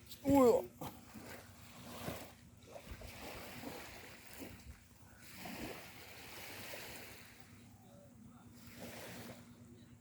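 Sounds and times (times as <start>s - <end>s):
sea waves washing on beach: 0.0s - 7.7s, 8.4s - 9.8s.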